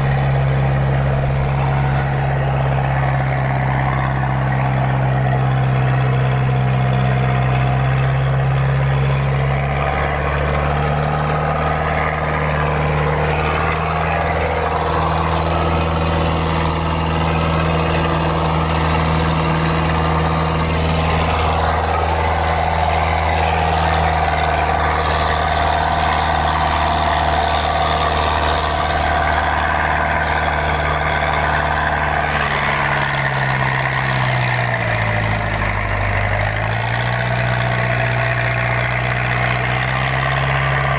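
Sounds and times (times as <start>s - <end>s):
boat diesel engine running: 0.0s - 40.9s.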